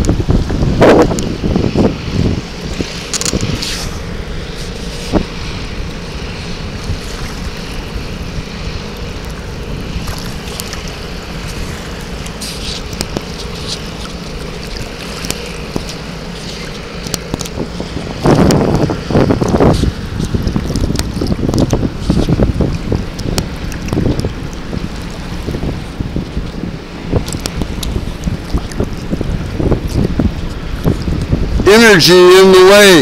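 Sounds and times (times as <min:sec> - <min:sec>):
faint steady hum: 0:00.0 - 0:33.0
small waves lapping: 0:00.0 - 0:33.0
wind noise on microphone: 0:00.0 - 0:33.0.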